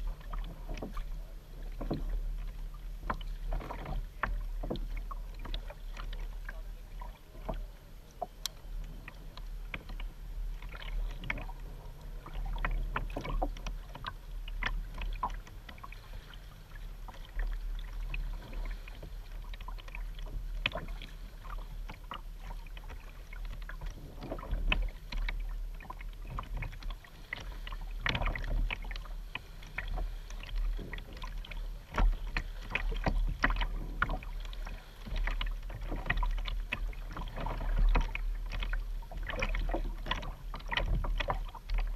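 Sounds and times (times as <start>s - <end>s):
paddle splashing in water: 0.0s - 41.9s
water dripping off paddle: 1.6s - 41.9s.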